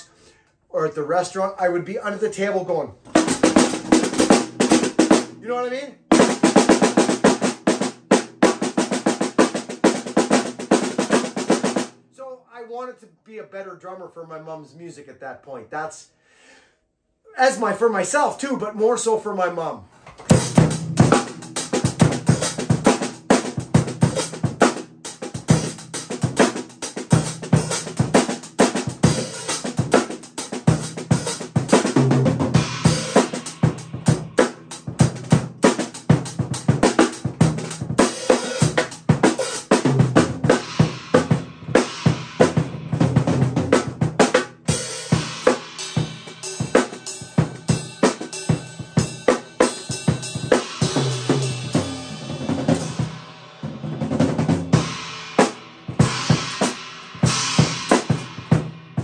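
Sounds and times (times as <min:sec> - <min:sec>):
drum kit groove: 0:03.0 - 0:12.0, 0:20.0 - 0:59.0.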